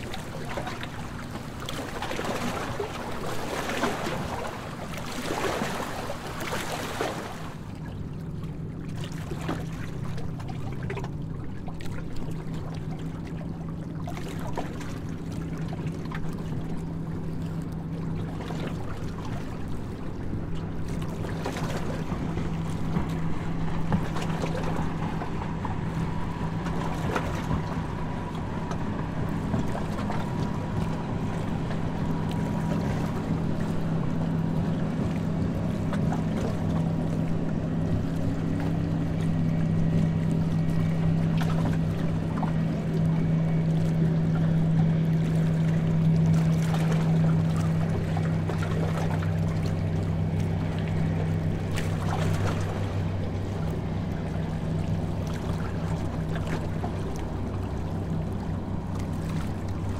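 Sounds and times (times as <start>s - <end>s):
boat engine droning: 0.0s - 59.9s
water rushing: 0.0s - 59.9s
wind: 0.0s - 59.9s.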